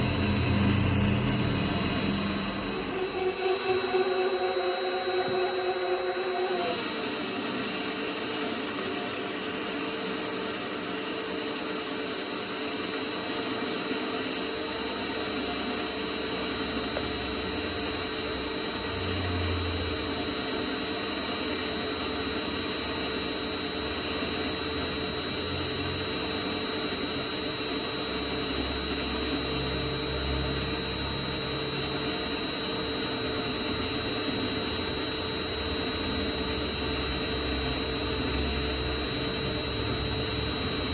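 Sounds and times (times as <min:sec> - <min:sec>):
metal lathe motor whining: 0:00.0 - 0:40.9.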